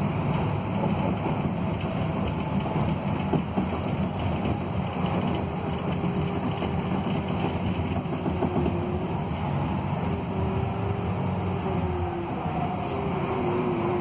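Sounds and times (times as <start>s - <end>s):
bus diesel engine drone: 0.0s - 14.0s
road noise: 0.0s - 14.0s.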